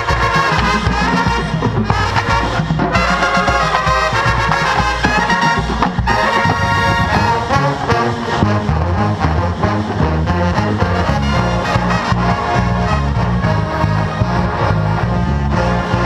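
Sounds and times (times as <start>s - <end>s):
loud brass section: 0.0s - 16.0s
marching band playing: 0.0s - 16.0s.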